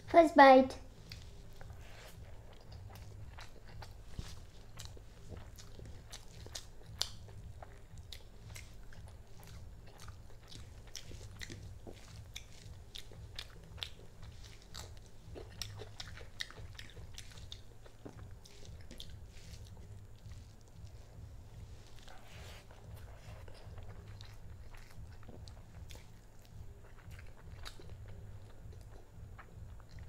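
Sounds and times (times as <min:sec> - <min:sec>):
low steady hum: 0:00.0 - 0:30.0
chewing and mouth clicks: 0:00.9 - 0:30.0.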